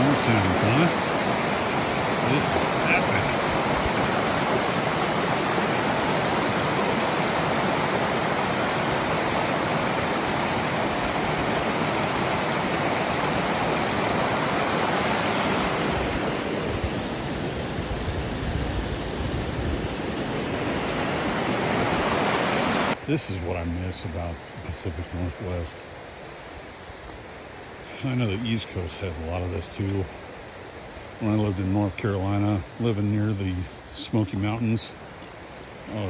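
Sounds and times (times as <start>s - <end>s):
water rushing over boulders: 0.0s - 36.0s.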